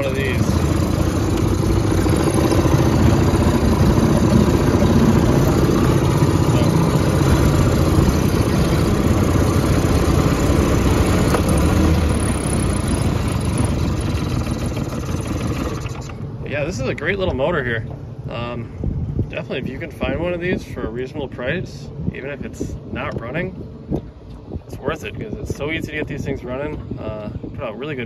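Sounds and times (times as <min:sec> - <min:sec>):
outboard motor running: 0:00.0 - 0:27.7.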